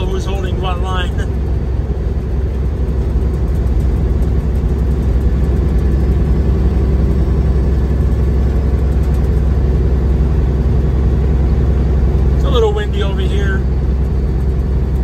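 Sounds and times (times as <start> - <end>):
truck engine and tyre drone: 0.0 - 15.0.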